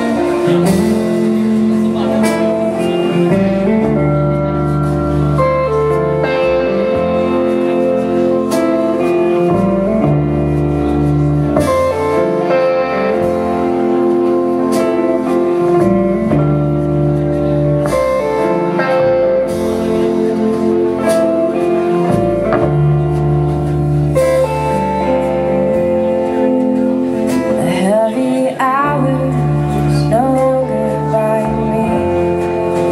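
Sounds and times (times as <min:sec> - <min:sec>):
bass line: 0:00.0 - 0:32.9
sustained chords: 0:00.0 - 0:32.9.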